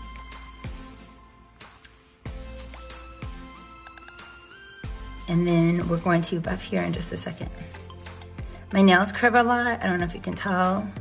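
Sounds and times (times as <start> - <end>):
background music with soft beat: 0.0 - 11.0.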